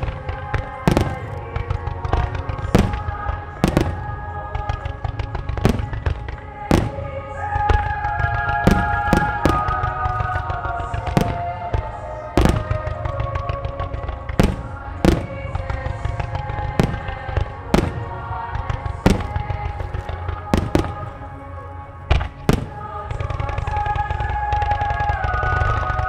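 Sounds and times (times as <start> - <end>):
firework shells booming: 0.0 - 24.6
show music: 0.0 - 24.6.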